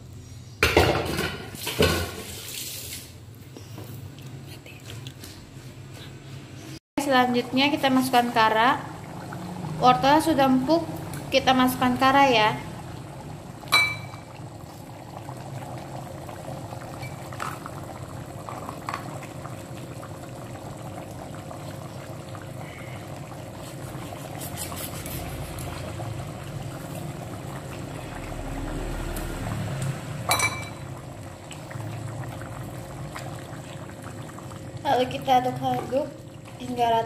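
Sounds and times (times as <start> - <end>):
sauce bubbling in a pot: 6.6 - 37.0.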